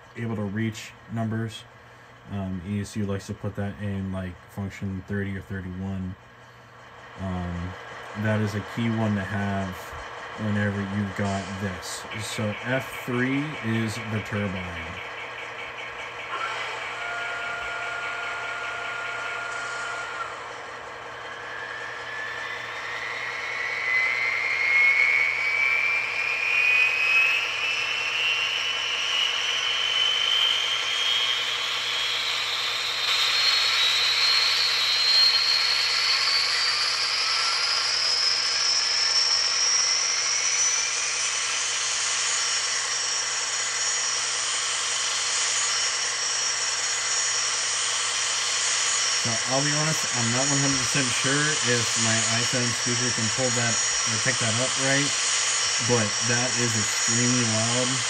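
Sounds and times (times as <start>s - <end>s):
turbine whine rising in pitch: 0.0s - 58.0s.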